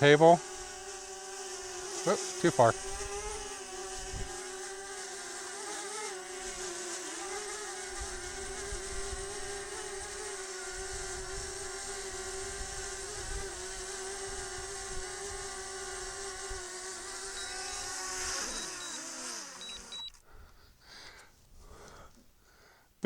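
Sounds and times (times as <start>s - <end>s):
drone propellers buzzing: 0.0s - 20.2s.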